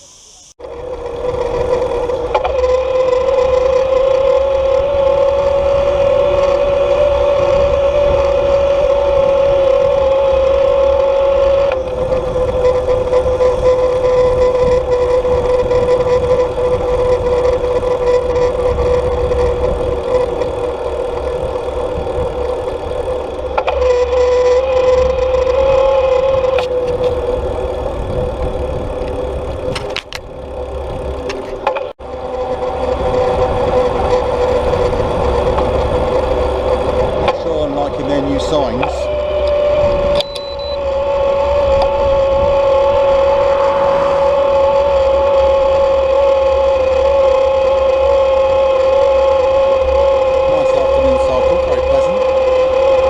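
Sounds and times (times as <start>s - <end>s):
loud motor whine: 0.0s - 53.0s.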